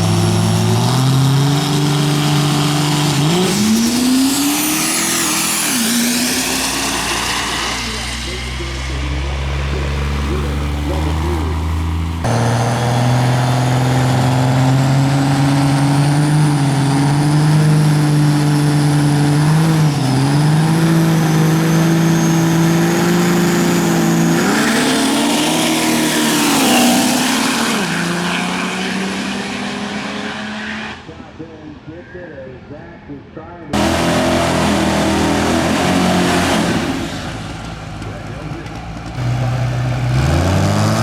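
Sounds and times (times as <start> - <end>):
diesel truck engine revving: 0.0 - 31.5, 33.7 - 41.0.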